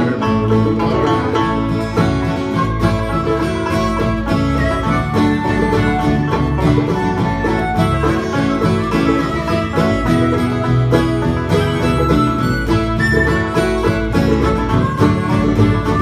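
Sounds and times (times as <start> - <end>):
plucked banjo notes: 0.0 - 16.0
strummed acoustic guitar chords: 0.0 - 16.0.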